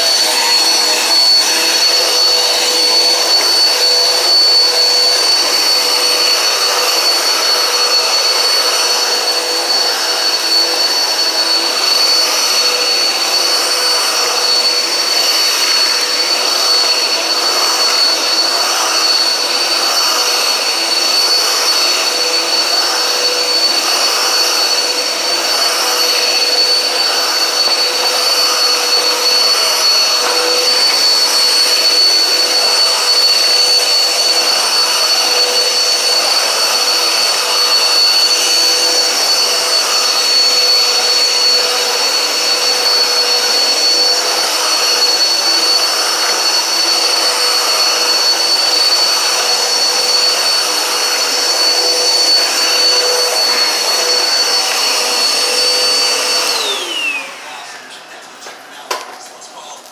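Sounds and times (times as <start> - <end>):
vacuum cleaner whining: 0.0 - 59.9.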